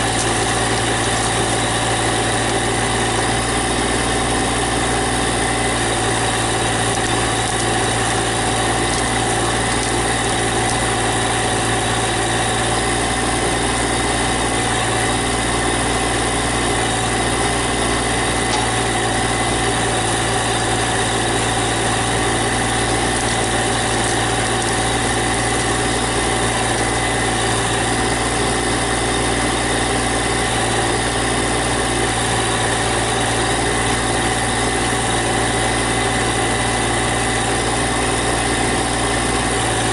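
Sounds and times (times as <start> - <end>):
thin steady whine: 0.0 - 39.9
tractor engine running: 0.0 - 39.9.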